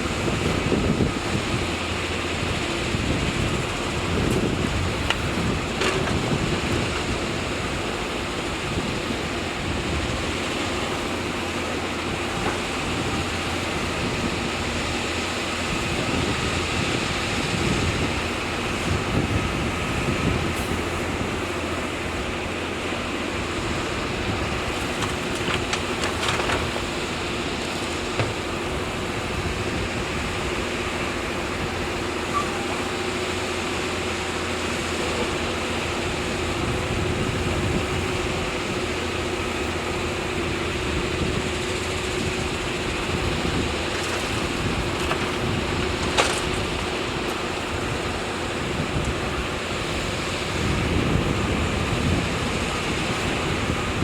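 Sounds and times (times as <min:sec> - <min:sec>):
heavy machinery engine hum: 0:00.0 - 0:54.0
wind-like noise: 0:00.0 - 0:54.0.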